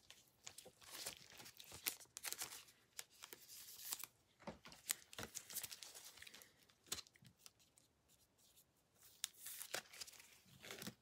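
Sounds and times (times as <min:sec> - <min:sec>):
trading cards rustling and scraping: 0:00.0 - 0:11.0.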